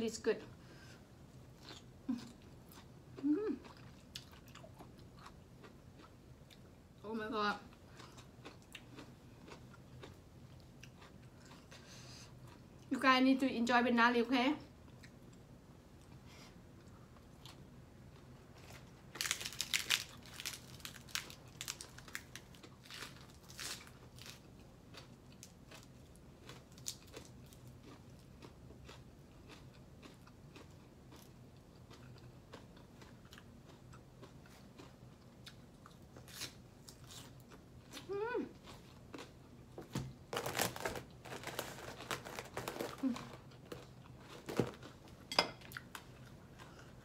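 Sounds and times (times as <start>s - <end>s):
chewing crunchy food: 1.3s - 7.0s, 7.7s - 12.9s, 16.8s - 47.0s.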